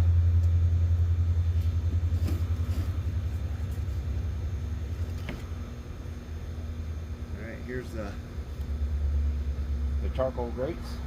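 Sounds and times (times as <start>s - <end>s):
low pulsing rumble: 0.0s - 11.0s.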